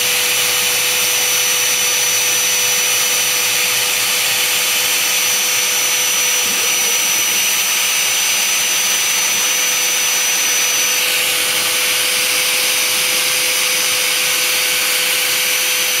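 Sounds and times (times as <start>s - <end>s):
router spindle motor whining: 0.0s - 16.0s
milling cutting noise: 0.4s - 16.0s.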